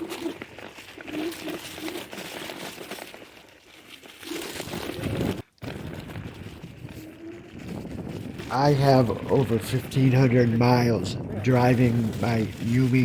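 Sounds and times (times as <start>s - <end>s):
tyres crunching on gravel: 0.0s - 13.0s.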